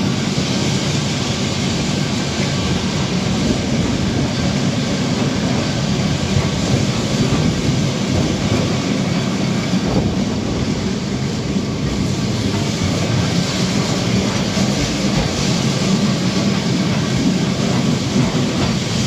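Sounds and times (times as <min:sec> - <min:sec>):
electric tram running on rails: 0:00.0 - 0:19.0
tram car rattling: 0:00.0 - 0:19.0.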